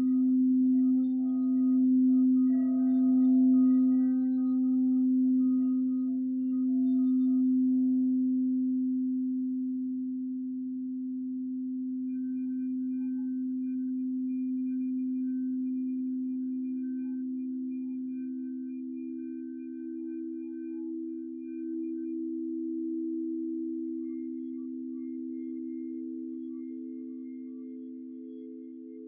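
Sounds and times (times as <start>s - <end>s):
singing bowl low tone: 0.0s - 29.0s.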